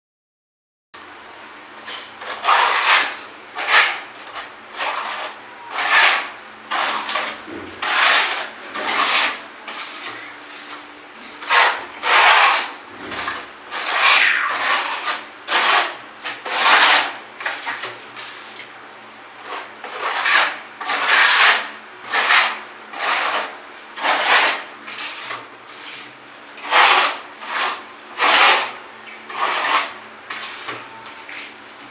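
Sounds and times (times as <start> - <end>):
hand tool rasping on rough surface: 2.2 - 10.8, 11.4 - 18.6, 19.4 - 30.8.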